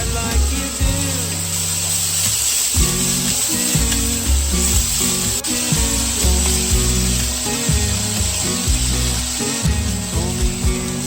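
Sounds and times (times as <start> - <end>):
background pop music: 0.0 - 11.0
food sizzling in a pan: 0.0 - 11.0.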